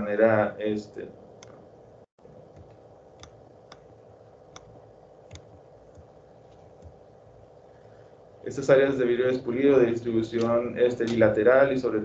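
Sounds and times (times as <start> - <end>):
room tone hum: 0.0 - 12.0.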